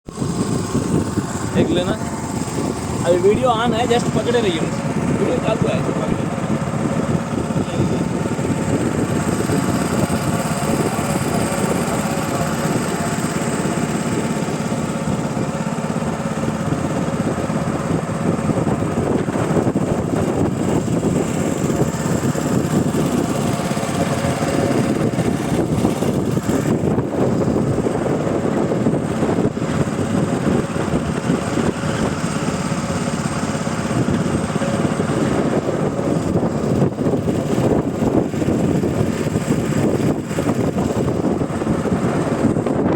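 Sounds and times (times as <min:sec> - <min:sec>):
motor boat engine drone: 0:00.0 - 0:42.9.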